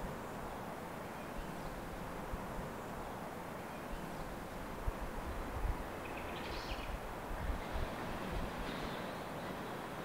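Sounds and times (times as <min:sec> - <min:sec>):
low rumble and hiss: 0:00.0 - 0:10.0.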